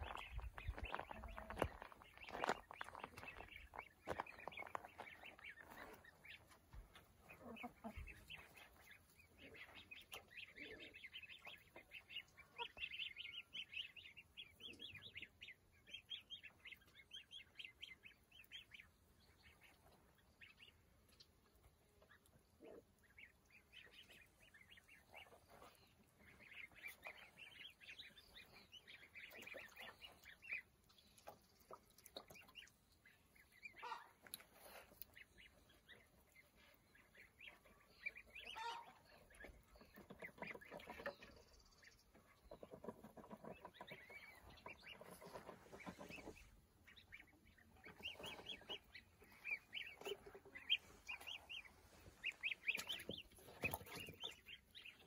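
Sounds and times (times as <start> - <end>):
goslings peeping: 0.0 - 55.0.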